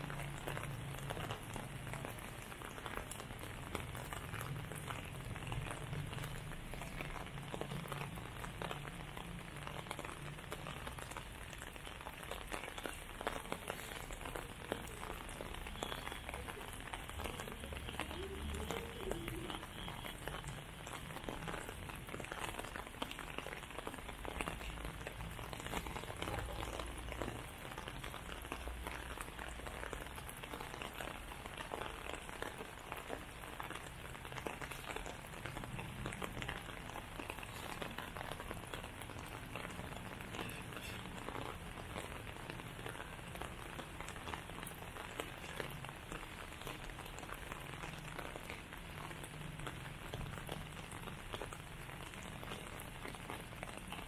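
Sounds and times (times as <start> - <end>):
rain on pavement and foliage: 0.0 - 54.0.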